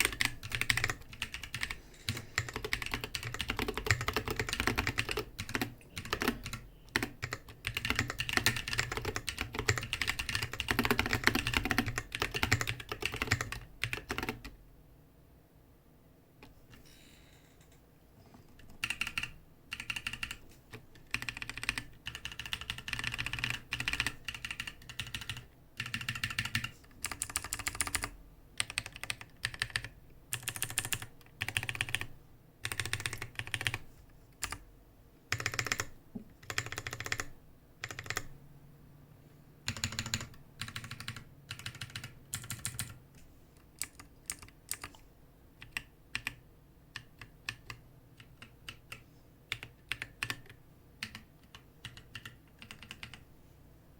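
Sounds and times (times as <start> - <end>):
mechanical keyboard typing: 0.0 - 14.6, 18.6 - 33.8, 34.4 - 34.6, 35.3 - 38.3, 39.6 - 43.0, 43.8 - 45.0, 45.6 - 53.2.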